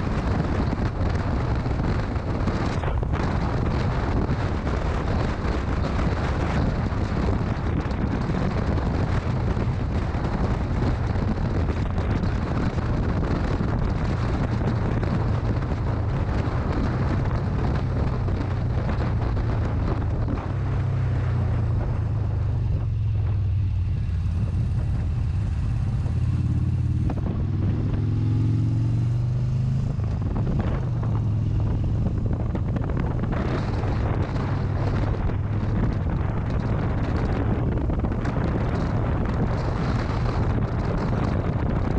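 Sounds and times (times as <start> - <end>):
motorcycle engine running: 0.0 - 41.9
wind rush on microphone: 0.0 - 41.9.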